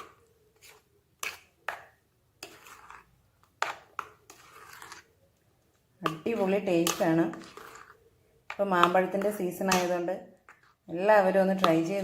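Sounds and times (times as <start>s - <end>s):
spoon scraping thick mixture: 0.0s - 12.0s.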